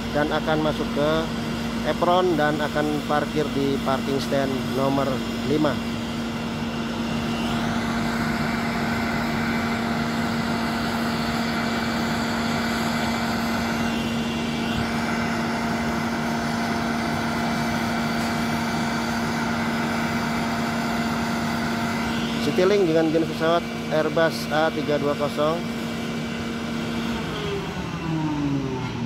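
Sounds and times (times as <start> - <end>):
jet engine droning with whine: 0.0 - 29.0.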